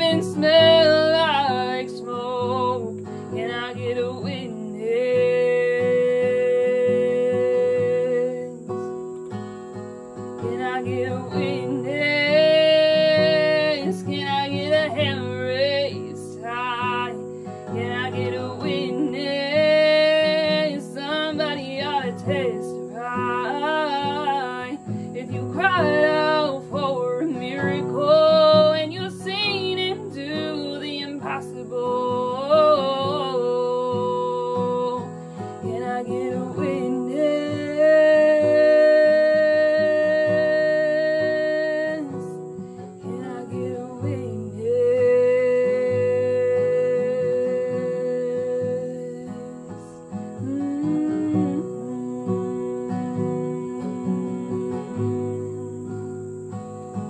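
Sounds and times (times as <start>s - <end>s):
acoustic guitar accompaniment: 0.0s - 57.0s
woman singing wavering notes: 10.4s - 56.1s.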